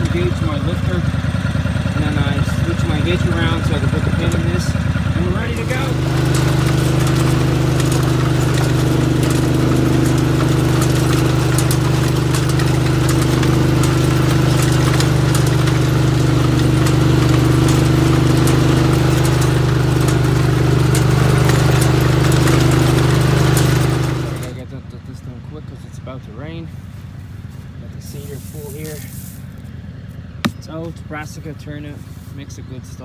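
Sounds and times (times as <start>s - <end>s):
tractor engine humming: 0.0s - 25.5s, 26.1s - 33.0s.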